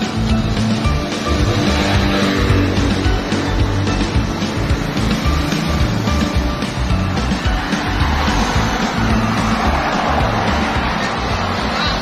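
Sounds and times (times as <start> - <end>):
music with strong bass line: 0.0 - 12.0.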